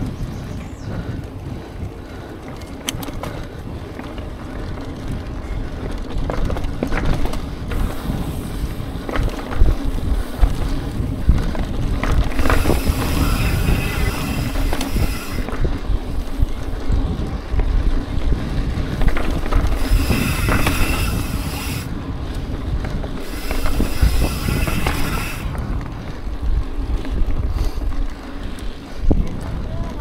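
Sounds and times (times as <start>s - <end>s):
bike rumbling over dirt: 0.0s - 30.0s
wind buffeting microphone: 0.0s - 30.0s.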